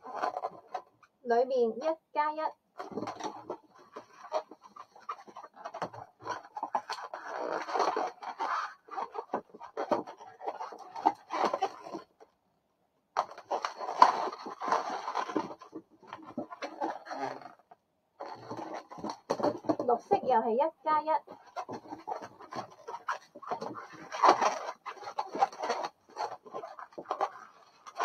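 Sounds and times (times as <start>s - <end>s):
balloons squeaking and rubbing: 0.0s - 1.1s, 2.8s - 12.2s, 13.2s - 19.9s, 20.9s - 28.0s.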